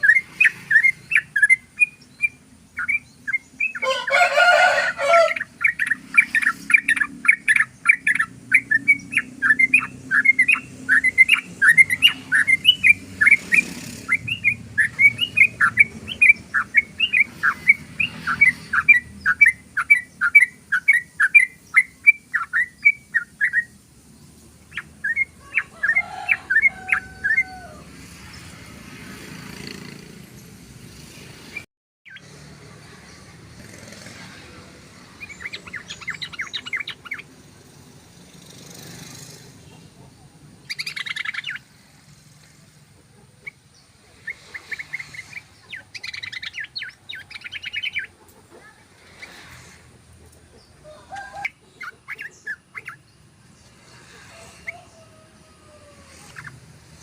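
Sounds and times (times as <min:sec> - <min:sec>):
bird rapid chirping song: 0:00.0 - 0:55.0, 0:56.1 - 0:57.0.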